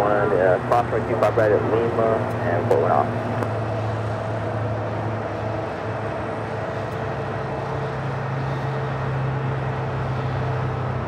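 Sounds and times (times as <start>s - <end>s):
jet aircraft drone: 0.0s - 11.0s.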